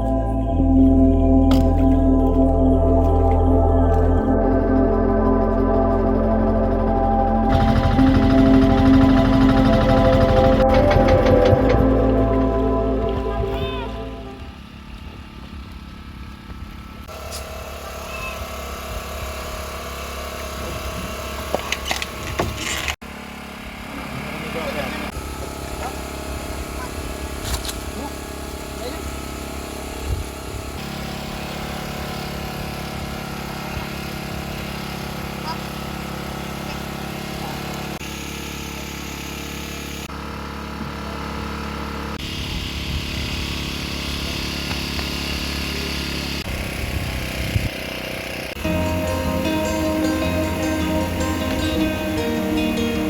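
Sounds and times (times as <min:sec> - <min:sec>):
small boat engine running: 0:00.0 - 0:53.0.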